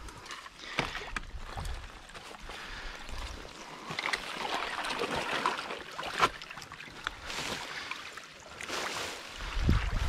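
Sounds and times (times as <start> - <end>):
person wading through water: 0.0 - 10.0.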